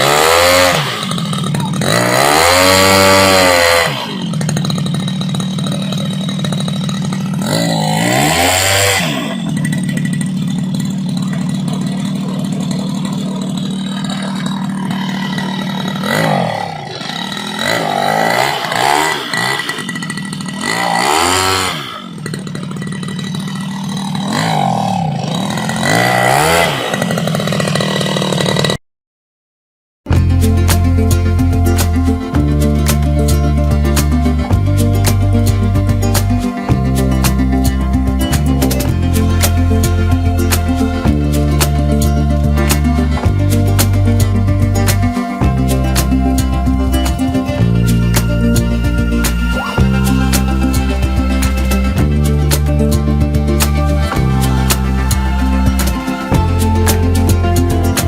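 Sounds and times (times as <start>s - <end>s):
two-stroke engine driving propeller: 0.0s - 28.8s, 30.1s - 58.0s.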